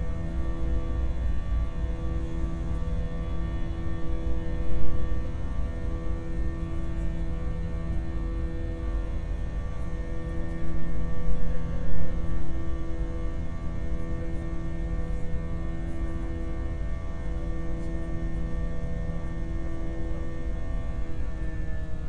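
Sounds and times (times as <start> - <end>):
airliner engine drone: 0.0 - 22.0
steady humming tones: 0.0 - 22.0.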